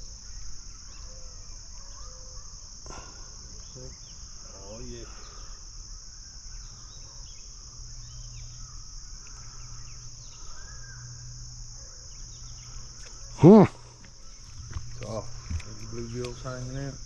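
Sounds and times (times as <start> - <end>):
crickets and insects droning: 0.0 - 17.0.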